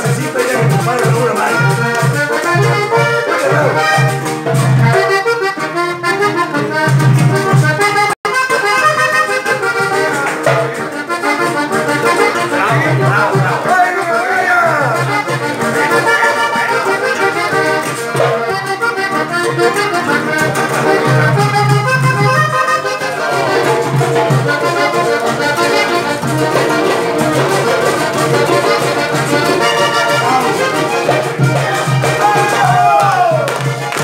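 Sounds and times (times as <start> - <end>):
button accordion playing: 0.0 - 34.0.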